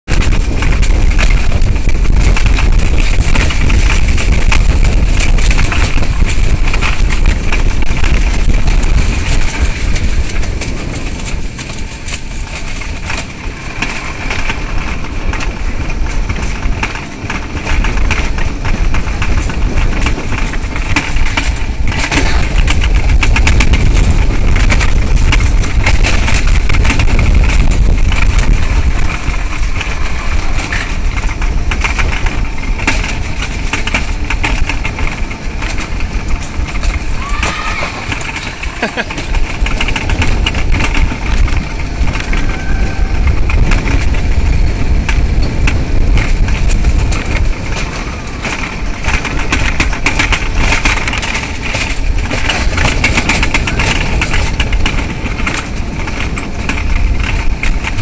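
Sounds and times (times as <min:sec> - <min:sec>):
coaster wheel rumble and rattle: 0:00.0 - 0:58.0
wind rushing over microphone: 0:00.0 - 0:58.0.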